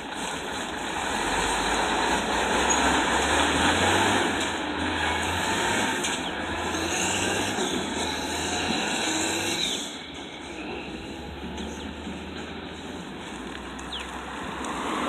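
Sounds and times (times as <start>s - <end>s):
dump truck diesel engine running: 0.0s - 15.0s.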